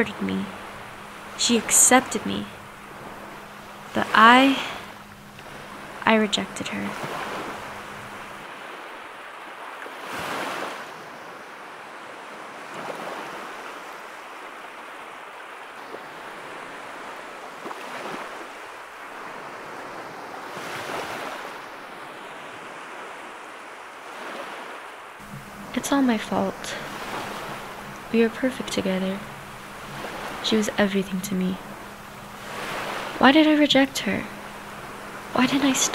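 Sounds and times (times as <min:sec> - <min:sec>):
ocean surf washing: 0:00.0 - 0:35.9.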